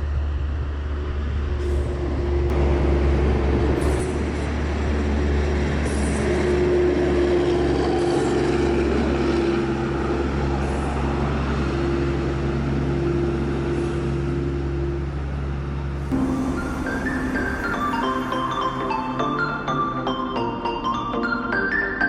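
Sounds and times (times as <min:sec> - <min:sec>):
hum: 0:00.0 - 0:20.4
road noise: 0:00.0 - 0:21.8
bus engine drone: 0:00.0 - 0:22.0.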